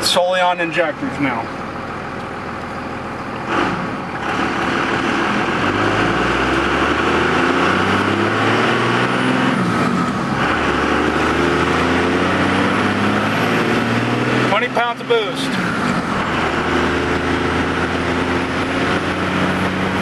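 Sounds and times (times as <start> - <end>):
diesel truck engine accelerating: 0.0 - 20.0
road and wind noise: 0.0 - 20.0.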